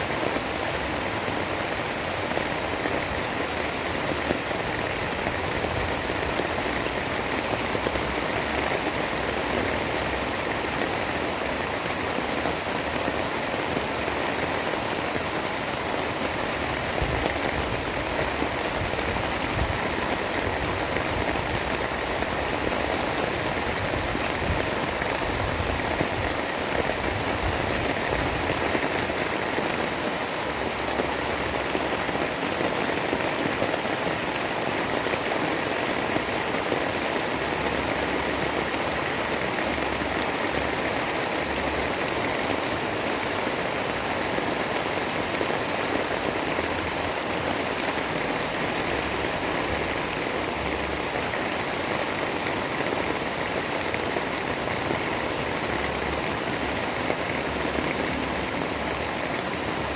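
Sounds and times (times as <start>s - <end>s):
dense rain falling: 0.0s - 59.9s.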